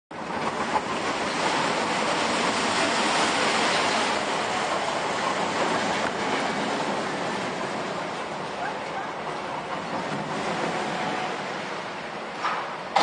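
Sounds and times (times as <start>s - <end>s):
roller coaster rumbling on rails: 0.1s - 13.0s.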